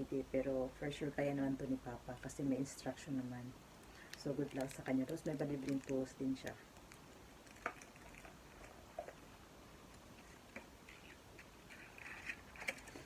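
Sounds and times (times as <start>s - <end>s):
soft rustle: 2.1s - 13.0s.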